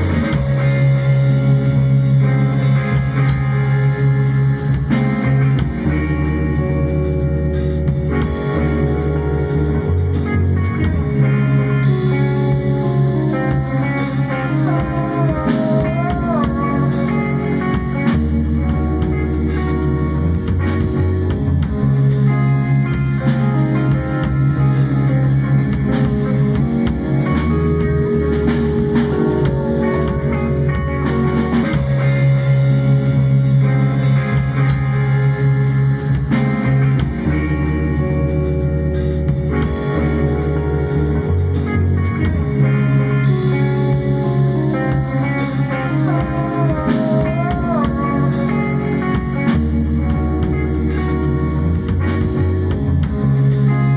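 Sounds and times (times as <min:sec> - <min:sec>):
improvised guitar music: 0:00.0 - 0:53.9.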